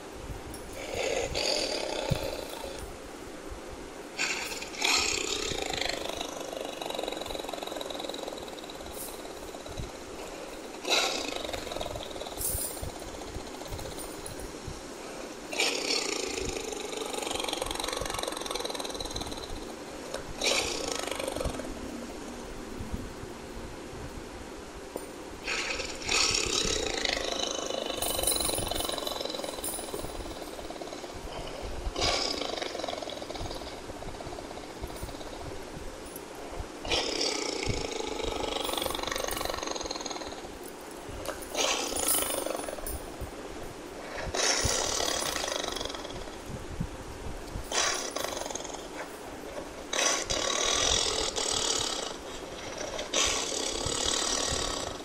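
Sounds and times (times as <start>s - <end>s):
tiger snarling: 0.7s - 3.0s, 4.2s - 22.3s, 25.4s - 43.3s, 44.0s - 46.6s, 47.5s - 55.0s.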